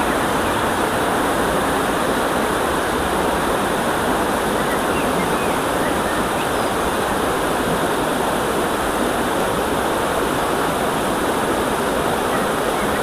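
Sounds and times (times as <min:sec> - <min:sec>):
shallow river water flowing: 0:00.0 - 0:13.0.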